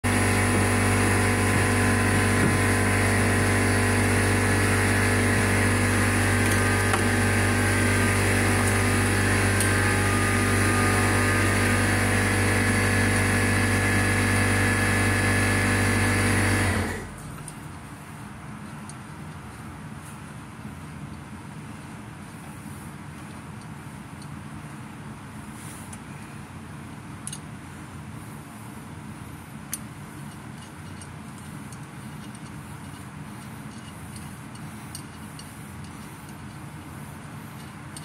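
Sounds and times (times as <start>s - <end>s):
steady mechanical drone: 0.0s - 38.0s.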